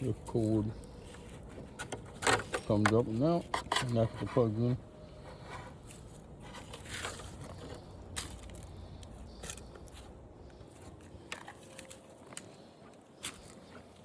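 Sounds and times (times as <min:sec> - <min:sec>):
handling clicks and rustle: 0:00.0 - 0:14.0.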